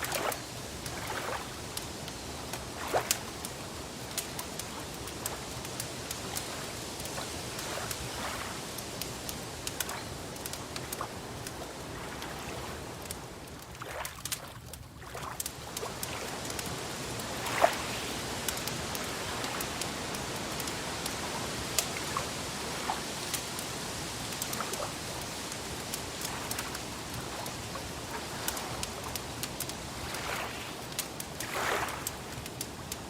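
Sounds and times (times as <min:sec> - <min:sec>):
rain hissing: 0:00.0 - 0:13.7, 0:15.4 - 0:33.0
wood fire crackling and popping: 0:00.0 - 0:33.0.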